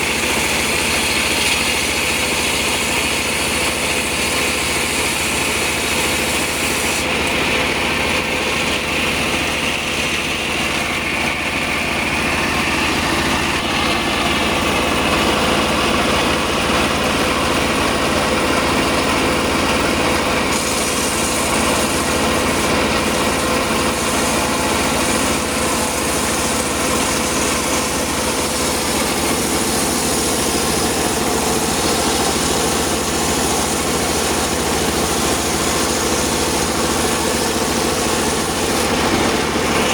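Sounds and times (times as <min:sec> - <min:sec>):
circular saw machine running: 0:00.0 - 0:39.9.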